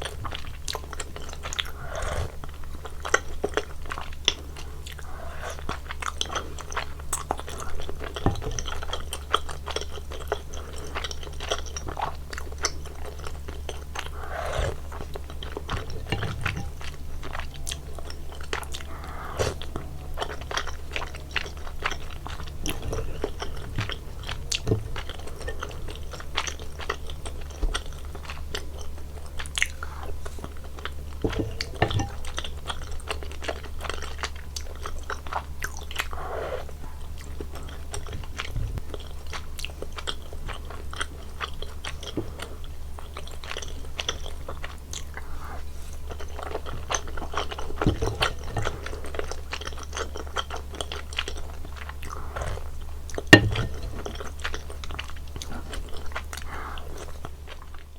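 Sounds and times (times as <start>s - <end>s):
steady low hum: 0.0s - 57.9s
wet chewing and biting: 0.0s - 57.9s.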